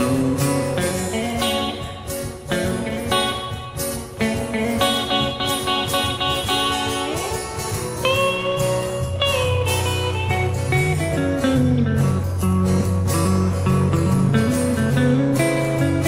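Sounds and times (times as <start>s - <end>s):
blues guitar playing: 0.0s - 16.0s.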